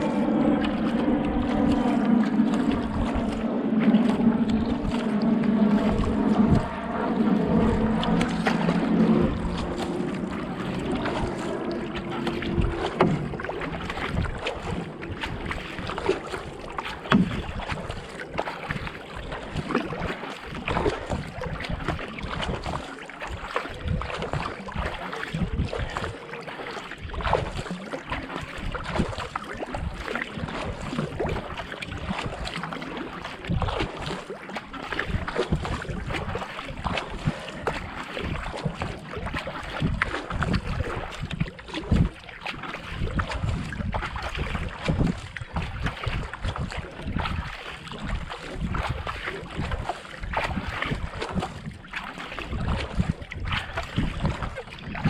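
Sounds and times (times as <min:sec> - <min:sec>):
wind buffeting microphone: 0:00.0 - 0:26.2, 0:28.3 - 0:55.0
kayak paddle strokes: 0:00.0 - 0:55.0
water splashing and rushing: 0:00.0 - 0:55.0.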